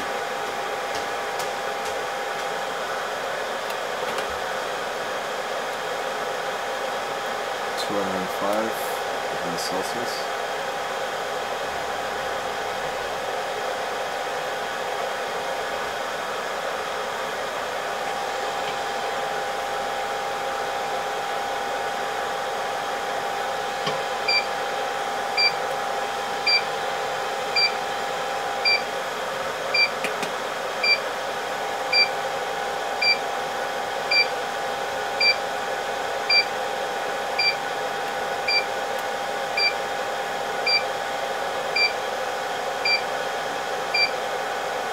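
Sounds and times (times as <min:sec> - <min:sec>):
hot-air station blowing: 0:00.0 - 0:44.9.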